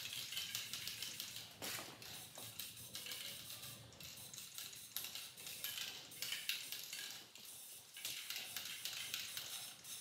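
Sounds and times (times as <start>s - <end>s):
aerosol spray can hissing: 1.2s - 10.0s.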